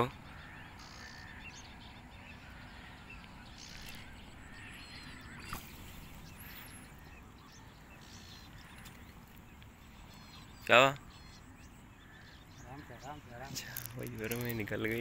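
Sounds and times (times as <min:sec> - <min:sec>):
faint bird calls and chirps: 0:00.0 - 0:15.0
outdoor background noise: 0:00.0 - 0:15.0.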